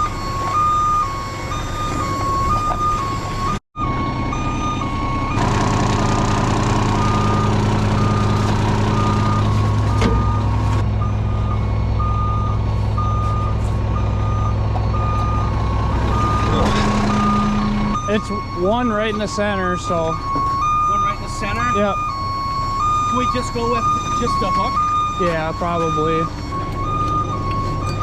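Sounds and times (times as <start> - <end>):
diesel engine running: 0.0 - 28.0
truck reversing alarm beeping: 0.0 - 28.0.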